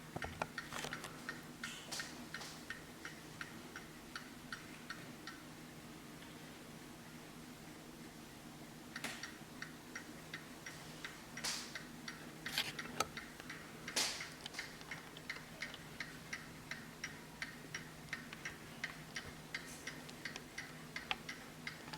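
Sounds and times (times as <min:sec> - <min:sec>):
mantel clock ticking: 0:00.5 - 0:05.5, 0:08.9 - 0:21.9.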